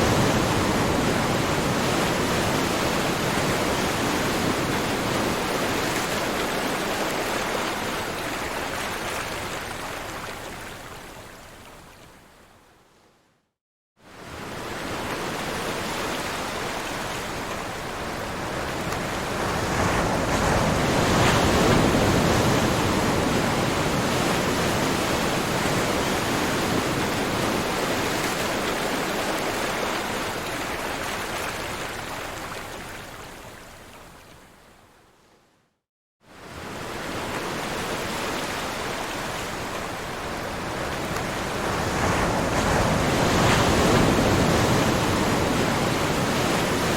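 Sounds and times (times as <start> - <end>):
ocean waves washing: 0.0 - 10.5, 14.1 - 33.2, 36.4 - 46.9.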